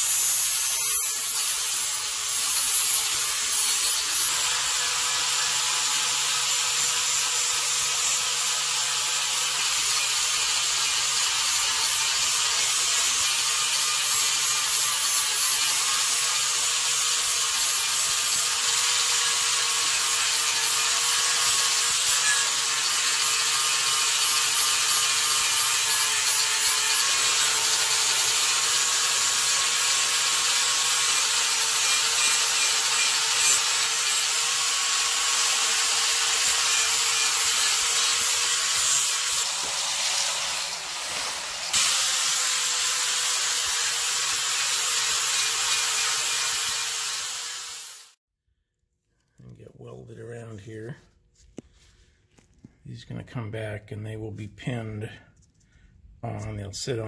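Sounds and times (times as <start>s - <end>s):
angle grinder grinding steel: 0.0s - 48.2s.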